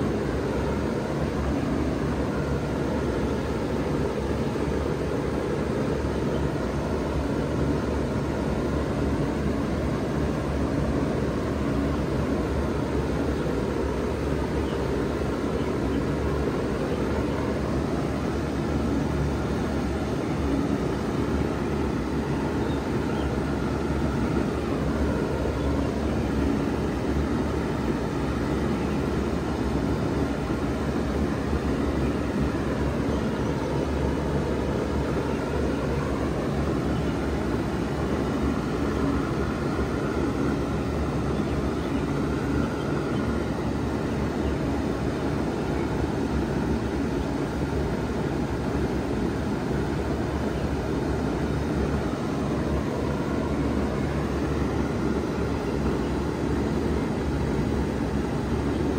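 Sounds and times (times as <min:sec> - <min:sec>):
condenser fan rushing: 0:00.0 - 0:58.9.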